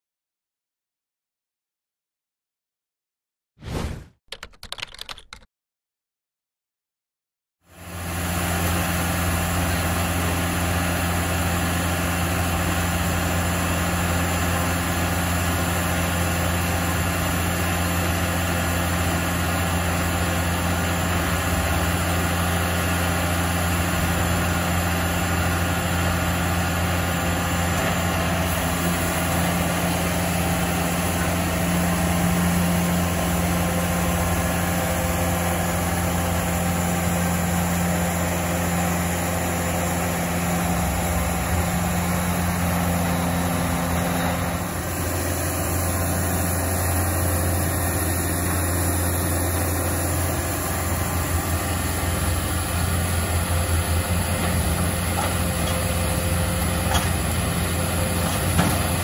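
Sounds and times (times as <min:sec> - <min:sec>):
diesel engine running: 0:07.7 - 0:59.0.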